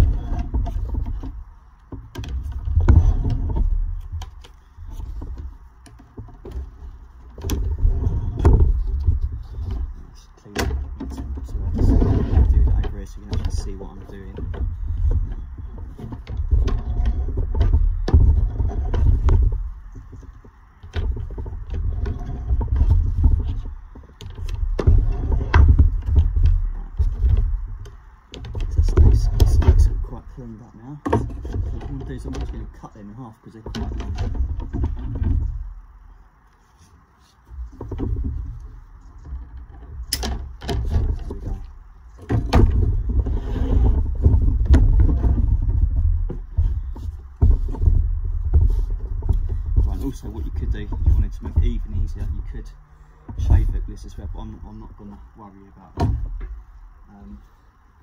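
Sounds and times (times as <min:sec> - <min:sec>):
low rumble on microphone: 0:00.0 - 0:58.0.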